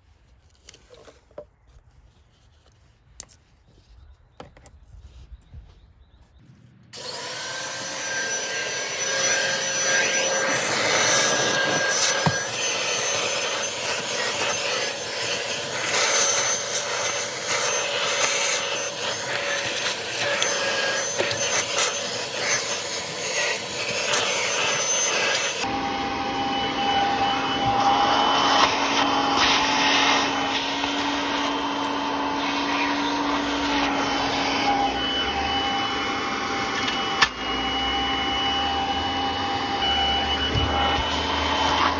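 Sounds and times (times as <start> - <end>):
vacuum cleaner running: 6.9 - 41.9
vacuum nozzle scraping carpet: 7.0 - 41.9.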